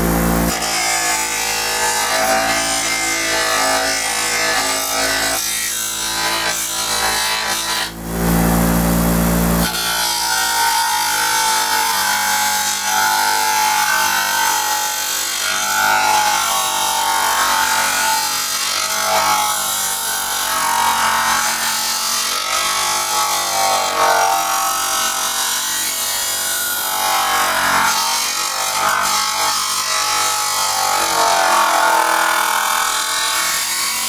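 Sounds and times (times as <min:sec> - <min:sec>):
bench grinder grinding metal: 0:00.0 - 0:34.0.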